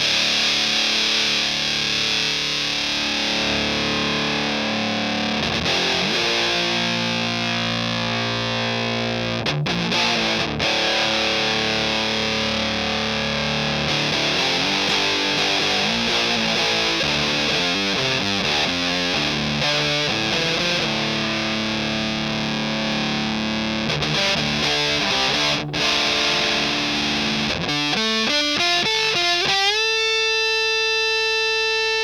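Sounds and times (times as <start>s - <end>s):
fuzz electric guitar: 0.0s - 32.0s.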